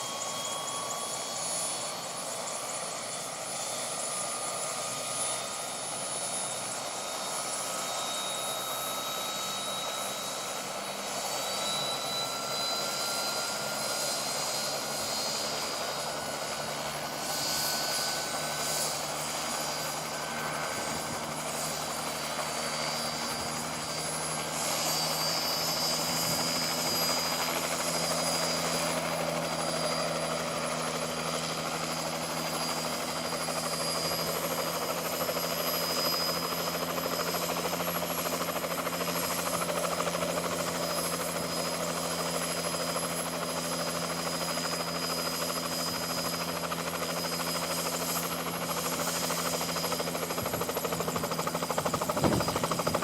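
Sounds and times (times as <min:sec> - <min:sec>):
helicopter running: 0:00.0 - 0:53.0.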